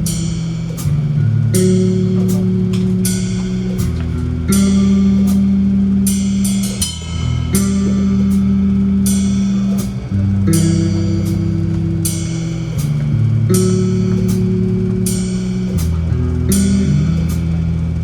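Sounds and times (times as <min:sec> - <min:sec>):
cymbal crashes: 0:00.0 - 0:17.6
drum kit: 0:00.0 - 0:17.6
bass and guitar chords: 0:00.0 - 0:18.0.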